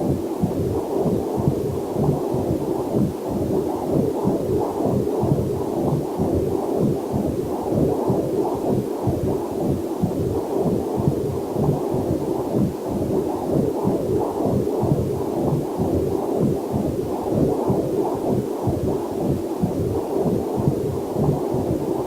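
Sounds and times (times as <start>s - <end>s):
whooshing heartbeat pulses: 0.0s - 22.0s.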